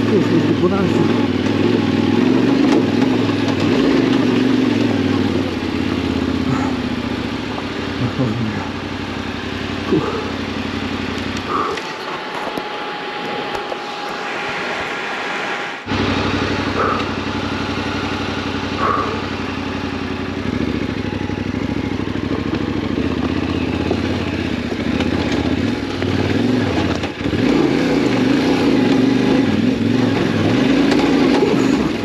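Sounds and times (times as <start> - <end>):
motorcycle engine running: 0.0 - 14.9, 15.8 - 32.0.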